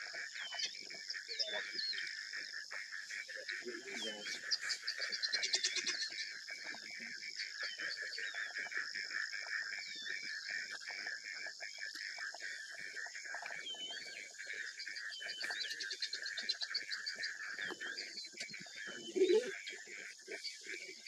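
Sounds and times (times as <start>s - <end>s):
frogs and insects trilling: 0.0s - 21.0s.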